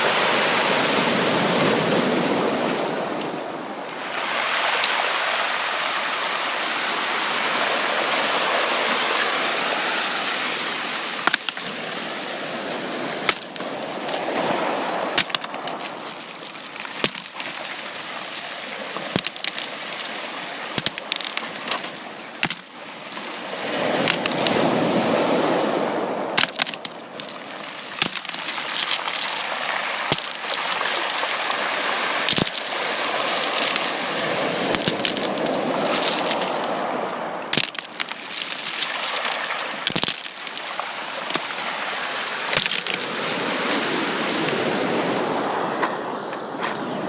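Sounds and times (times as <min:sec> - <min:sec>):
sea waves washing onto beach: 0:00.0 - 0:47.0.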